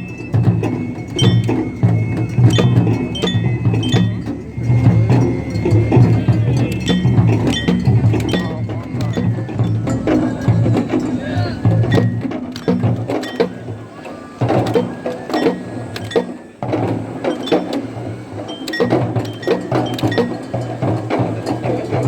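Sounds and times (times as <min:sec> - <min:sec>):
drums beating: 0:00.0 - 0:22.0.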